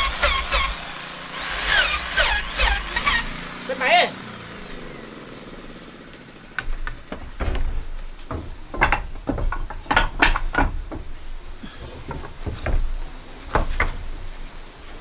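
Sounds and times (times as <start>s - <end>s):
wooden knocks and clatter: 0.0s - 3.5s, 6.4s - 15.0s.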